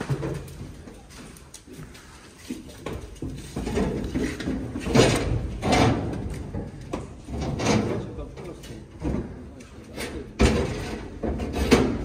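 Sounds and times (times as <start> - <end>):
metal crate clanks and bangs: 0.0 - 0.8, 3.1 - 12.0.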